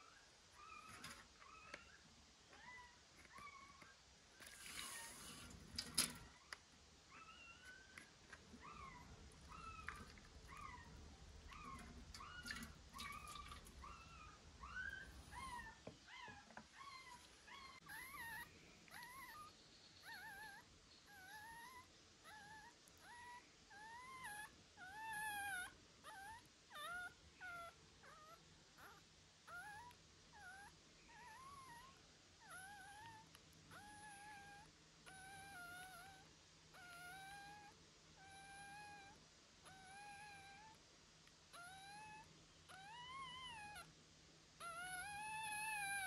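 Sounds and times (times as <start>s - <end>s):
puppy whimpering: 7.1s - 40.8s, 41.5s - 43.9s, 44.6s - 46.0s.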